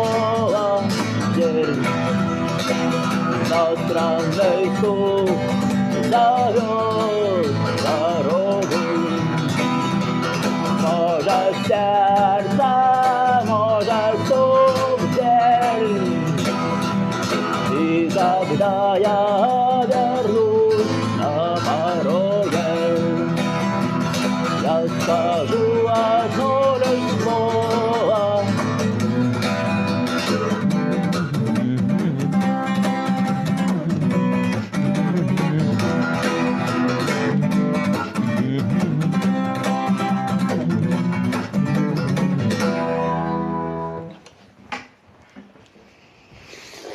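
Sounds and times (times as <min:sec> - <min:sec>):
person singing: 0:00.0 - 0:29.4, 0:30.1 - 0:42.4
acoustic guitar strumming: 0:00.0 - 0:44.4.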